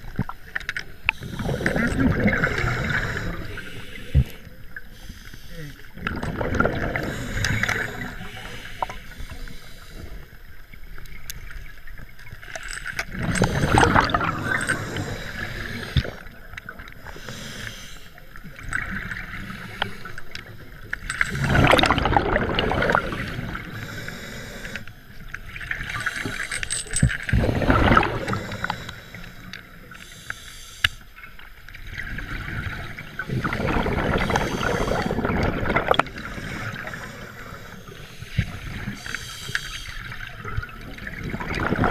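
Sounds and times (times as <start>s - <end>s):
bubbling exhaled air underwater: 0.0s - 5.0s, 5.9s - 10.3s, 10.9s - 30.0s, 31.8s - 41.9s.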